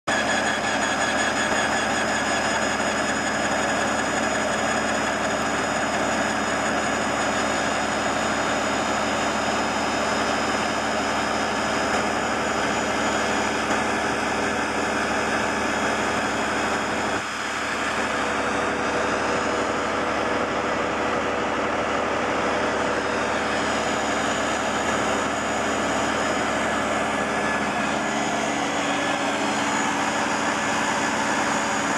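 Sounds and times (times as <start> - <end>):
boring machine mechanical whine: 0.1 - 31.9.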